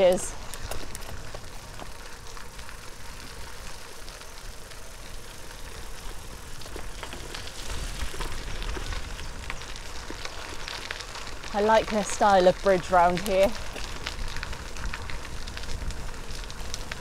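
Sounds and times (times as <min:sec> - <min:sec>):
bike tyres rolling over gravel: 0:00.0 - 0:17.0
wind rumble on microphone: 0:03.0 - 0:17.0.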